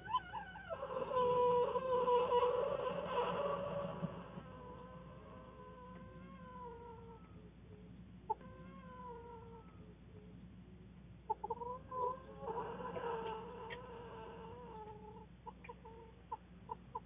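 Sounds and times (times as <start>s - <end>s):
animal calls: 0.0s - 17.0s.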